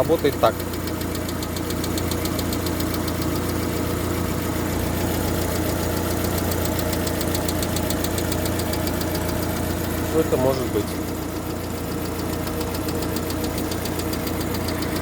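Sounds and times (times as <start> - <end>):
car engine idling: 0.0 - 15.0
rapid metallic ticking: 0.0 - 15.0.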